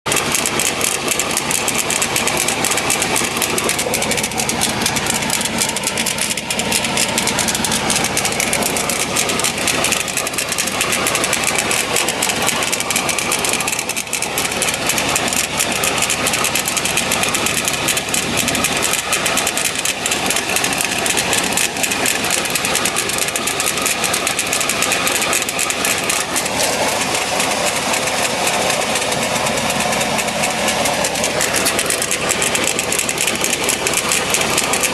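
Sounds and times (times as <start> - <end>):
engine with rapid mechanical clatter: 0.0 - 34.9.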